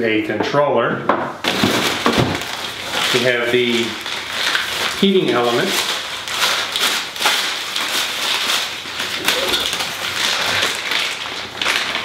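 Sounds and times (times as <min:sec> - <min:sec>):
packing paper crinkling: 0:01.4 - 0:12.0
plastic wrap crackling: 0:01.4 - 0:12.0.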